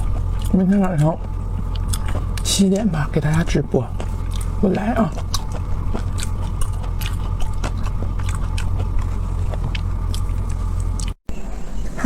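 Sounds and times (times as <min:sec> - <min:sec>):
person chewing and crunching food: 0:00.0 - 0:11.2
steady low hum: 0:00.0 - 0:12.0.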